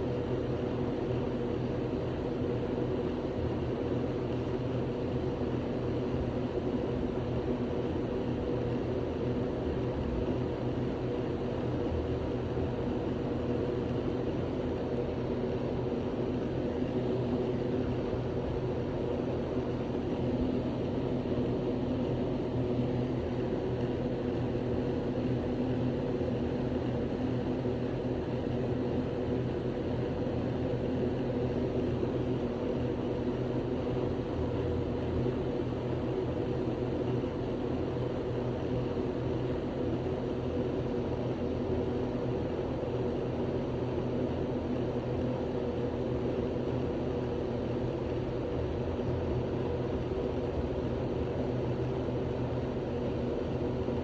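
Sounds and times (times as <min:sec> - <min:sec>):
steady mechanical drone: 0:00.0 - 0:54.0.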